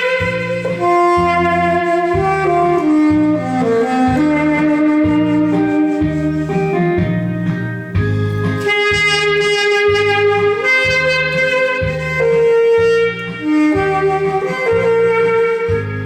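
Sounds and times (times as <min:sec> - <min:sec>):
backing track with bass line: 0:00.0 - 0:16.0
saxophone melody: 0:00.0 - 0:16.0.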